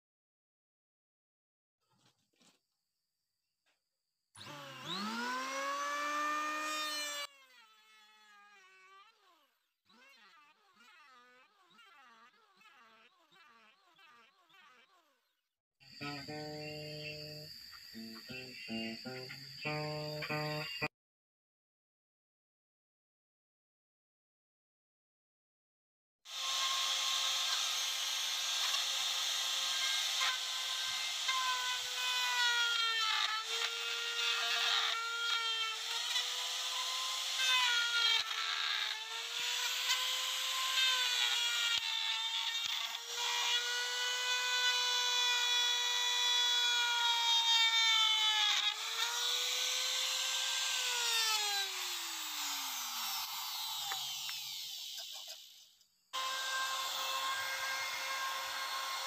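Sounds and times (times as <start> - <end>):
electric router whining: 4.4 - 14.6, 15.9 - 20.9, 26.3 - 55.6, 56.2 - 59.0.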